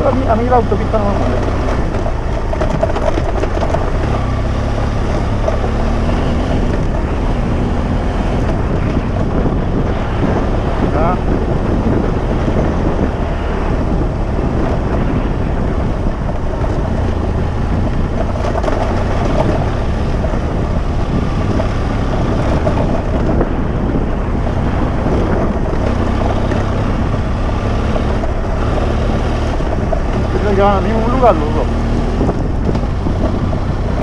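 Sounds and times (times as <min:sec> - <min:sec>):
vehicle engine noise: 0:00.0 - 0:34.0
wind buffeting microphone: 0:00.0 - 0:34.0.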